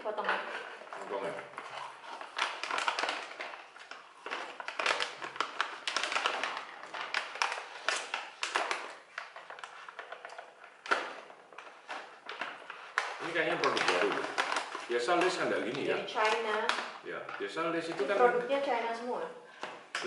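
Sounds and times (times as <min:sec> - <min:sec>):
crisp bag crinkling: 0:00.0 - 0:18.7.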